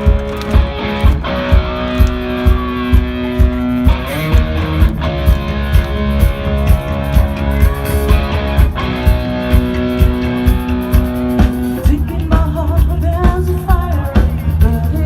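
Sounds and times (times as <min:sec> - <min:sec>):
bass guitar: 0:00.0 - 0:15.0
electric guitar chords: 0:00.0 - 0:15.0.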